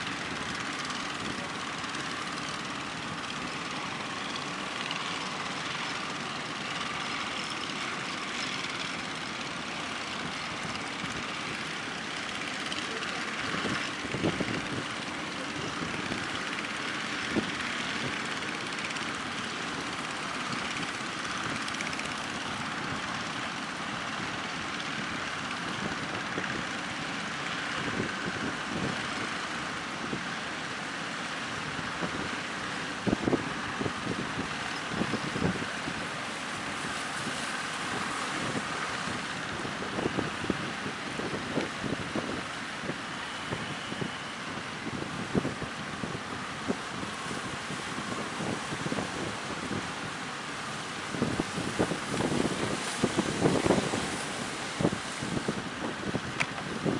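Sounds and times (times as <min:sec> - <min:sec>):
boat engines running: 0:00.0 - 0:56.9
surf: 0:00.0 - 0:56.9
strong wind: 0:06.3 - 0:30.4, 0:31.5 - 0:56.9.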